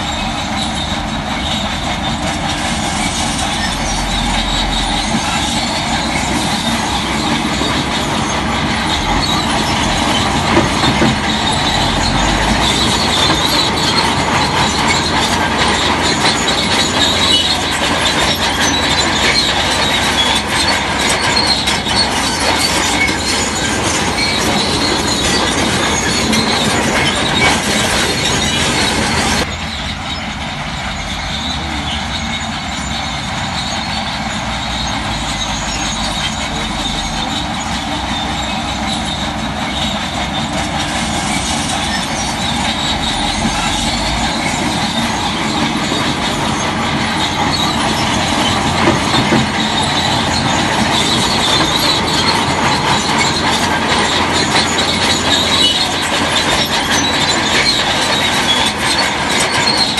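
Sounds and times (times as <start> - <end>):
bulldozer tracks clattering and squealing: 0.0 - 59.9
diesel engine running: 0.0 - 59.9.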